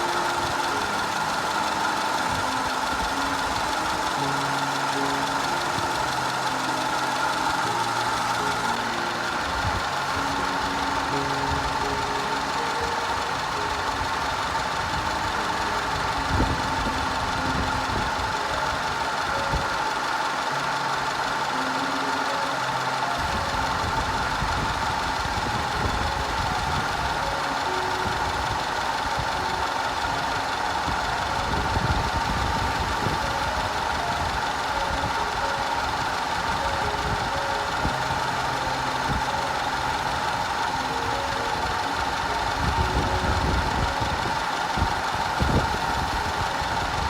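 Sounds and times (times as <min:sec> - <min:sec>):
car engine idling: 0:00.0 - 0:47.0.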